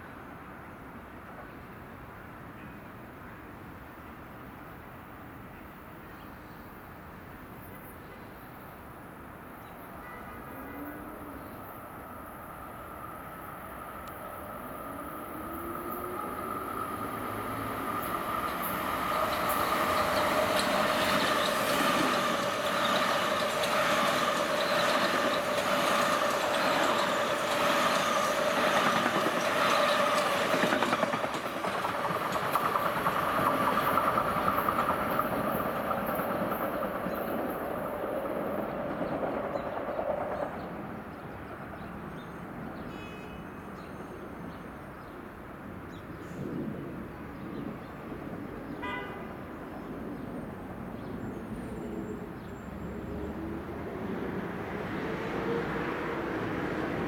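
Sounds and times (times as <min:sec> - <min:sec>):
electric trains running past: 0:00.0 - 0:57.0.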